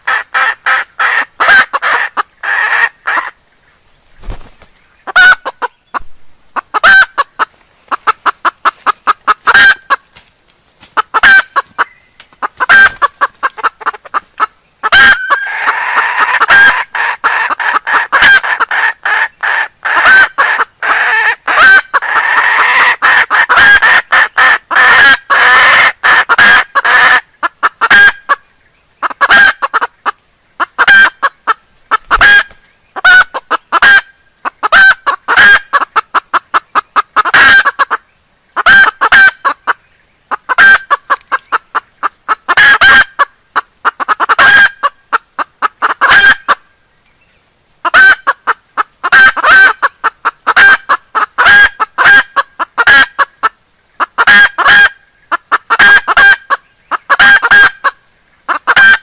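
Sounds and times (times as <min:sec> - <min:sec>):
hen clucking: 0:00.0 - 0:03.6, 0:04.2 - 0:46.7, 0:47.8 - 0:59.0.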